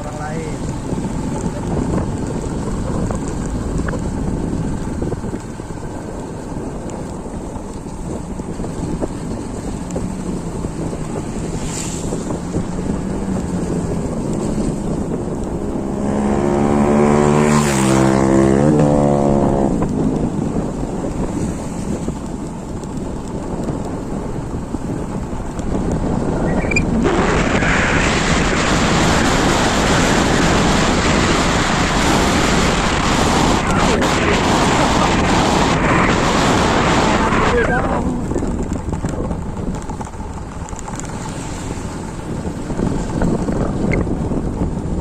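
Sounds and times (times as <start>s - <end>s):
motor vehicle passing: 0.0s - 45.0s.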